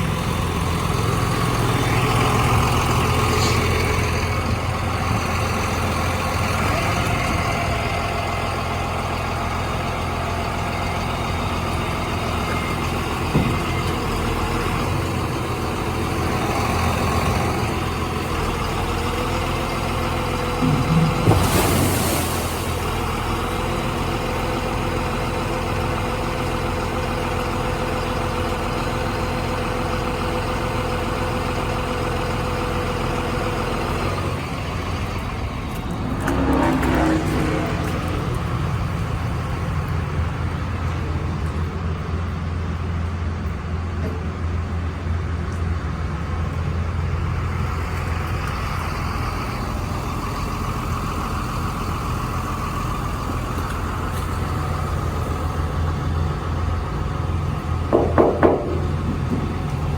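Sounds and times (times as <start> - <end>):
sweeper truck running: 0.0 - 59.9.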